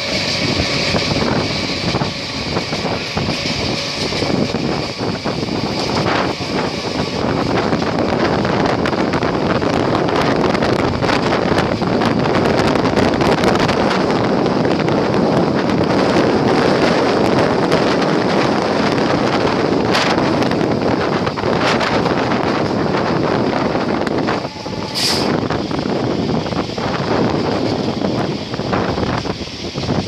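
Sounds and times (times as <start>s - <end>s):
train rumbling along track: 0.0s - 30.0s
wind buffeting microphone: 0.0s - 30.0s.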